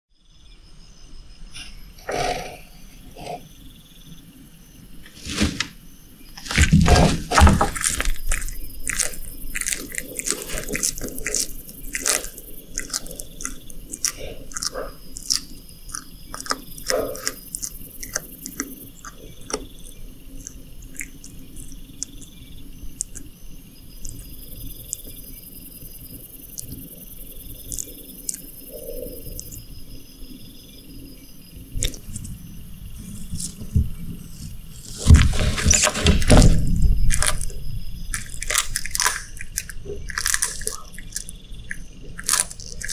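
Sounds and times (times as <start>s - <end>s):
lizard chewing wet crunches: 6.4s - 29.7s, 31.6s - 42.9s.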